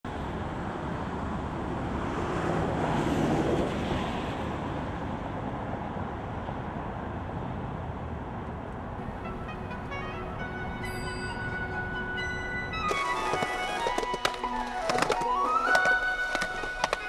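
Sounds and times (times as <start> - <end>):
wind: 0.0 - 17.0
traffic rumble: 0.1 - 17.0.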